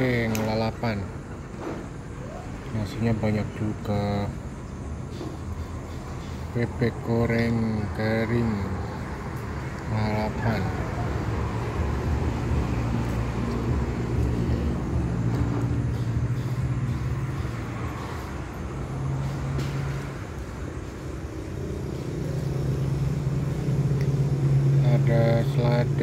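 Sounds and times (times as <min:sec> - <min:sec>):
low engine hum: 0:00.0 - 0:26.0
road traffic noise: 0:00.0 - 0:26.0.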